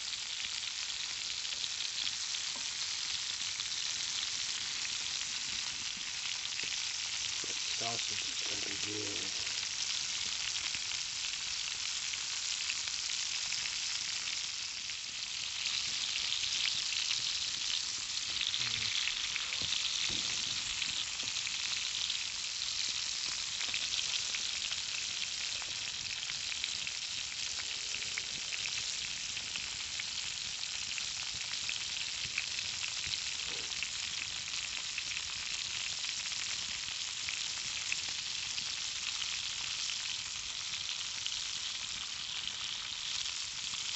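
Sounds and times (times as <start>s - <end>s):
sausages sizzling in a skillet: 0.0s - 43.9s.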